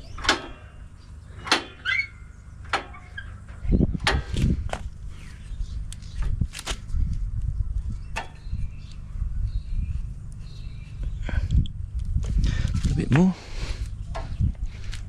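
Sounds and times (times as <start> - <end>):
low rumble of handling noise: 0.0 - 15.0.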